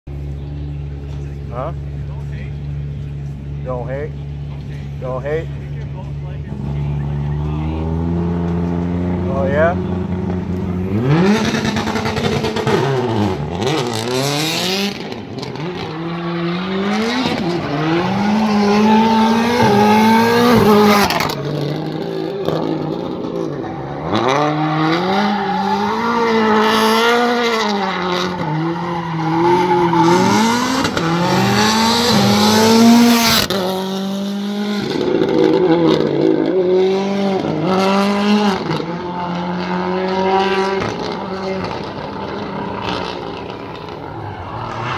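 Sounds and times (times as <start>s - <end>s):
rally car engine revving: 0.1s - 44.9s.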